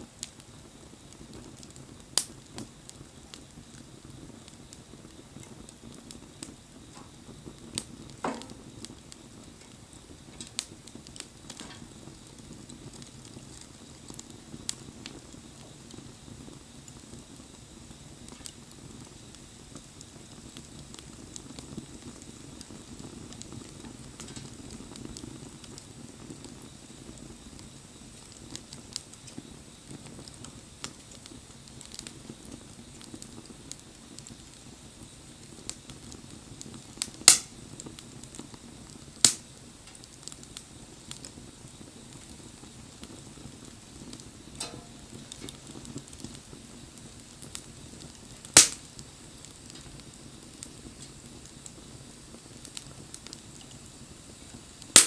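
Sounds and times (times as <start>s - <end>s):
bonfire flames rushing: 0.0s - 55.0s
fire crackling and popping: 0.0s - 55.0s.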